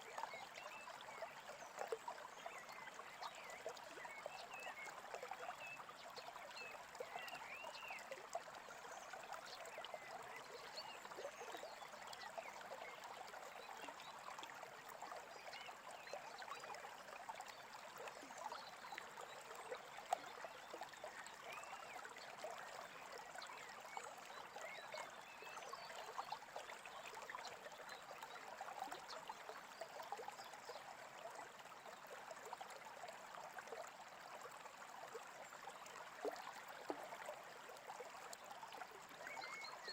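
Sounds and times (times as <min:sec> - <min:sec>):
creek trickling: 0:00.0 - 0:39.9.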